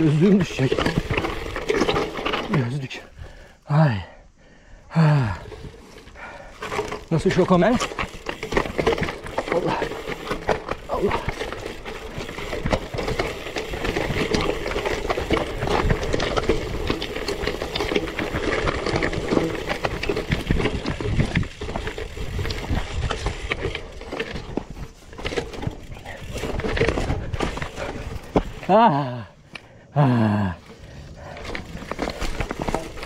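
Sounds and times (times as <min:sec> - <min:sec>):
bike rattling and knocking: 0:00.0 - 0:03.4, 0:05.2 - 0:29.8, 0:30.6 - 0:33.0
tyres crunching over stones: 0:00.0 - 0:03.6, 0:05.2 - 0:29.8, 0:30.5 - 0:33.0.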